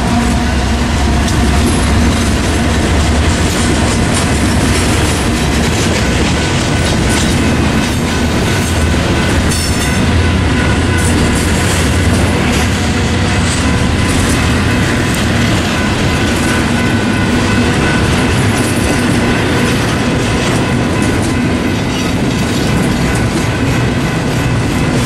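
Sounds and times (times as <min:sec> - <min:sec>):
freight train rumble: 0:00.0 - 0:25.0
wheels clattering over rail joints: 0:00.0 - 0:25.0.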